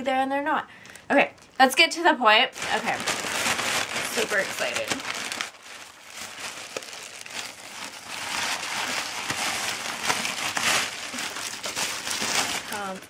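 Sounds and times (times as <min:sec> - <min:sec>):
plastic bag crinkling: 0:00.8 - 0:01.9, 0:02.5 - 0:13.0.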